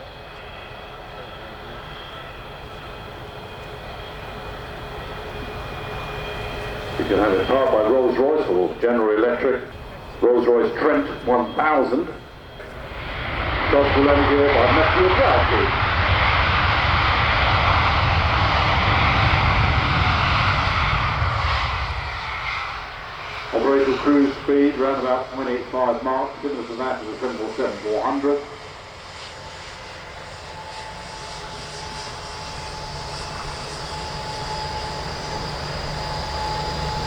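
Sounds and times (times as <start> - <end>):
jet airliner engines rumbling: 0.0 - 37.0.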